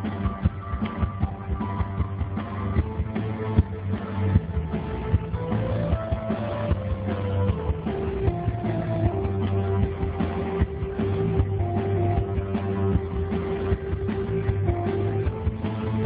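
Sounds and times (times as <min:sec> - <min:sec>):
synth-pop band playing live: 0:00.0 - 0:16.0.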